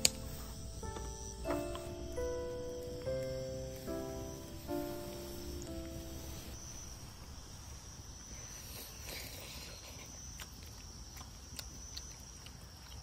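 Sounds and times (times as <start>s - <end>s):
high-pitched insect trill: 0.0s - 10.4s.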